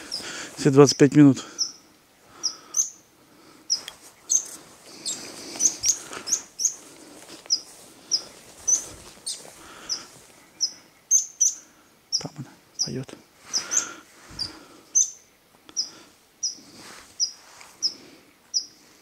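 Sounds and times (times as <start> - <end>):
songbird chirping: 0.0 - 18.8.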